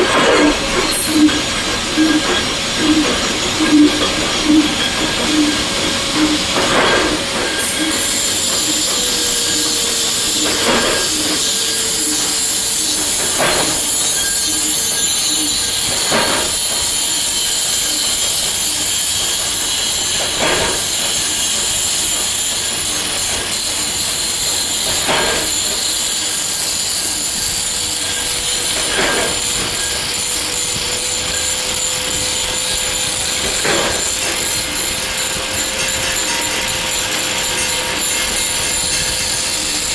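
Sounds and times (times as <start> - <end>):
machinery high whine: 0.0 - 39.9
machinery hiss: 0.0 - 39.9.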